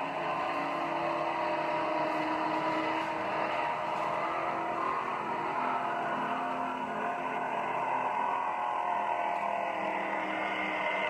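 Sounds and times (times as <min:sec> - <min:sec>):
powerboat engines droning: 0:00.0 - 0:11.0.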